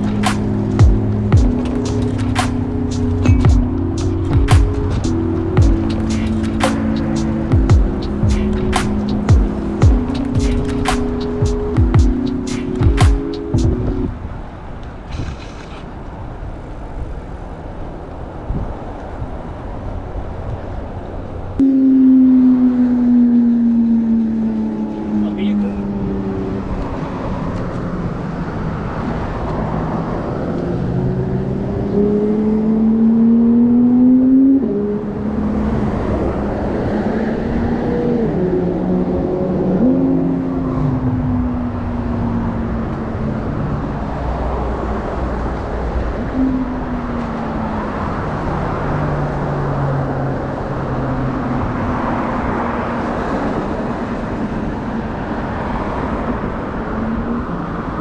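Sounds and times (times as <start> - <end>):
vehicle engines passing and accelerating: 0.0 - 14.4, 21.4 - 58.0
steady traffic rush: 0.0 - 58.0.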